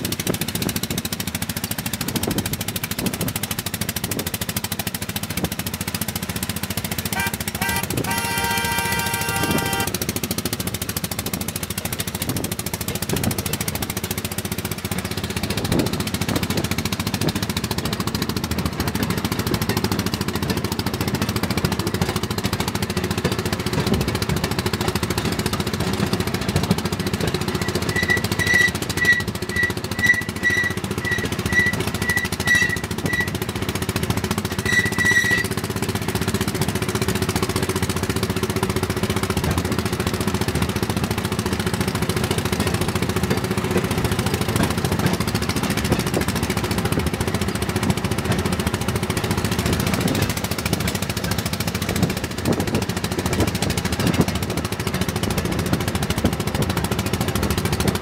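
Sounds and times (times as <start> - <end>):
rail motor car engine clattering: 0.0 - 58.0.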